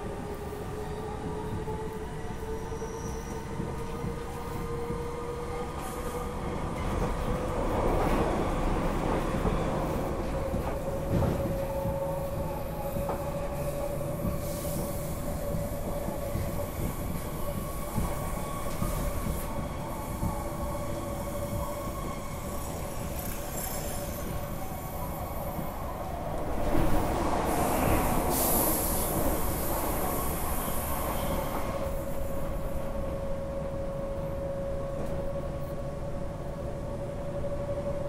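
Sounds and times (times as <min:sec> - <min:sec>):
passing train: 0:00.0 - 0:38.0
train wheels rumbling on rail: 0:00.0 - 0:38.0.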